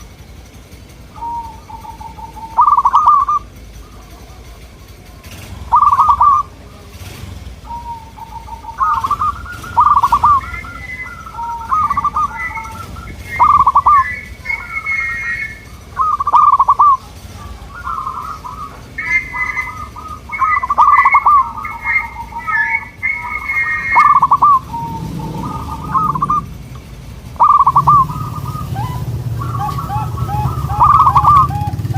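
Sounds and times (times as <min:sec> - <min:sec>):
doves cooing in trilled phrases: 0:00.0 - 0:31.9.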